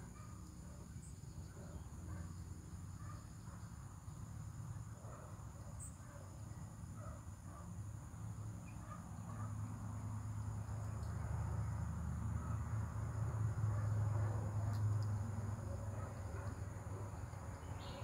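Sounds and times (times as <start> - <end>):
insects calling: 0.0 - 18.0.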